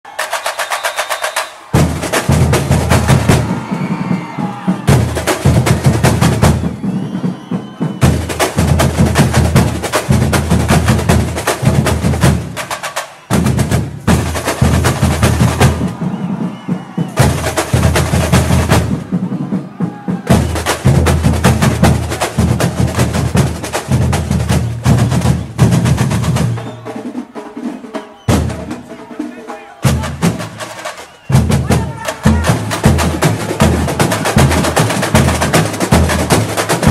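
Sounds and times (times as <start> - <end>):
fast snare and small drums: 0.1 - 36.9.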